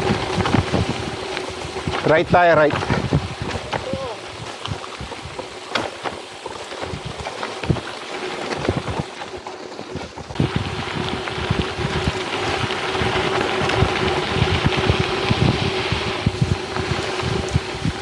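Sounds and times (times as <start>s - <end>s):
bike knocks and rattles: 0.0s - 18.0s
bike tyres on wet gravel: 0.0s - 18.0s
wind on microphone: 0.0s - 18.0s.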